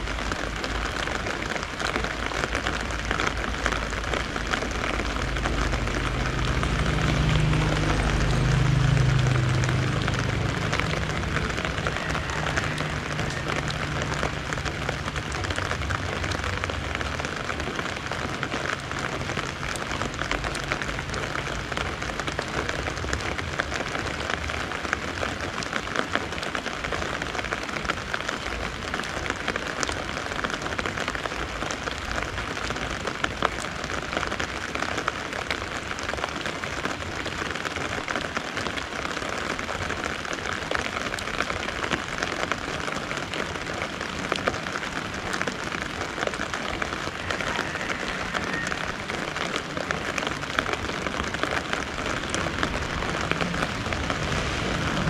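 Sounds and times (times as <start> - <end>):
rain pattering on umbrella: 0.0 - 55.0.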